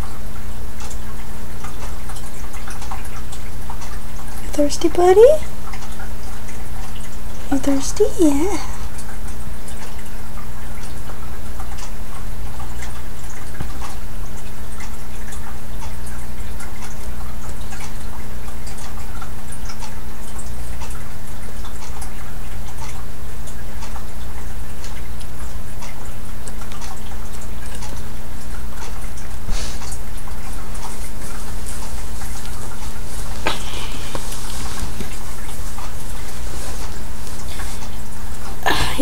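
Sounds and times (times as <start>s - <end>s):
faint ticks and clicks: 0.0s - 38.7s.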